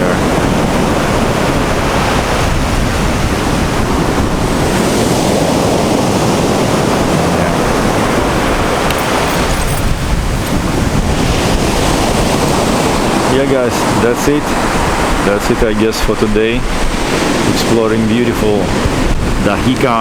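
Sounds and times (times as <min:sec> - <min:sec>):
sea surf on shore: 0:00.0 - 0:20.0
wind buffeting microphone: 0:00.0 - 0:20.0.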